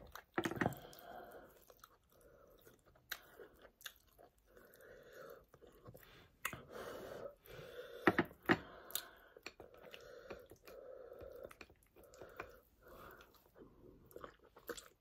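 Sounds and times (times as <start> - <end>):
wet chewing: 0.0 - 6.7, 8.6 - 15.0.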